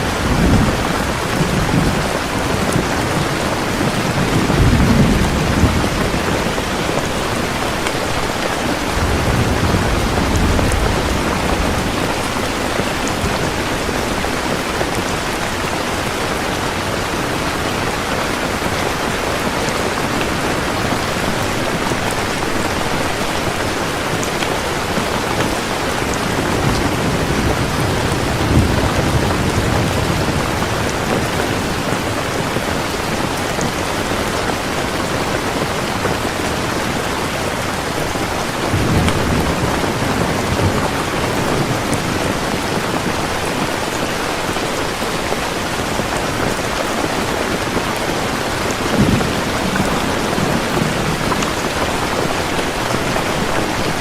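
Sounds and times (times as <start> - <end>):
thunder rumbles: 0.0 - 37.0, 37.8 - 54.0
heavy rain falling: 0.0 - 54.0.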